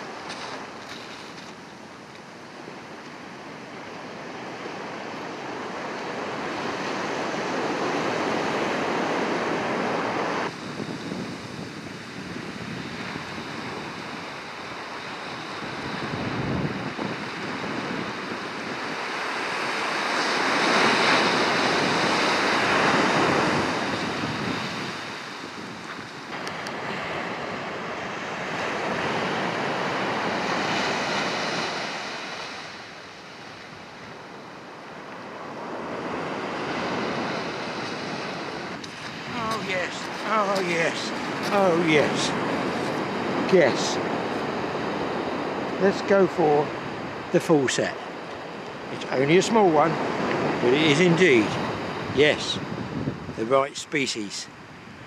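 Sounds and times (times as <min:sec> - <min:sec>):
wind on microphone: 0:00.0 - 0:47.4, 0:48.0 - 0:53.8
surf washing onto beach: 0:00.0 - 0:55.0.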